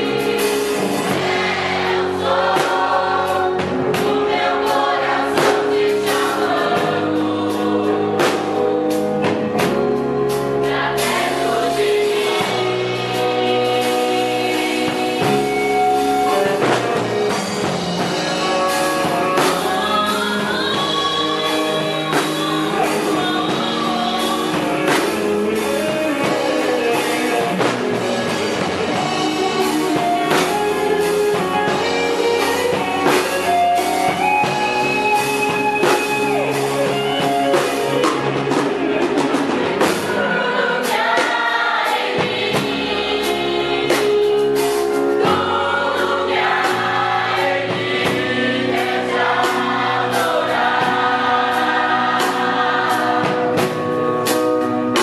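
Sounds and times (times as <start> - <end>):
electric guitar: 0.0 - 40.8, 42.2 - 55.0
drum kit: 0.0 - 55.0
people singing: 0.0 - 55.0.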